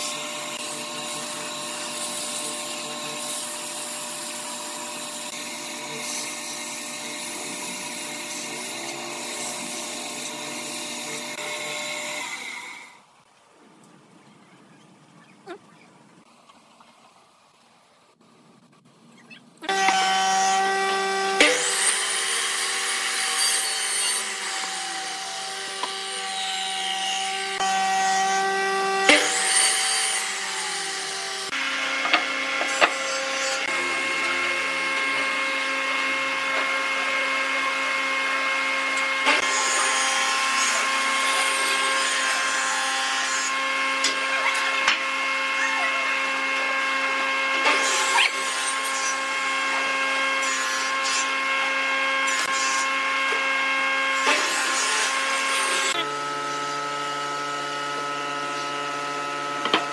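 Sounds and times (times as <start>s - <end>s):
miter saw cutting wood: 0.0s - 13.2s, 19.6s - 59.9s.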